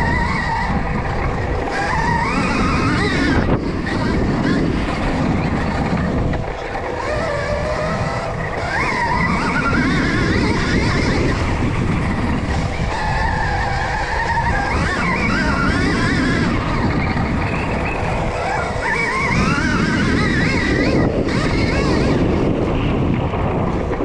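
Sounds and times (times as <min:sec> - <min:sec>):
electric motorbike motor whine: 0:00.0 - 0:24.0
steady rush of noise: 0:00.0 - 0:24.0.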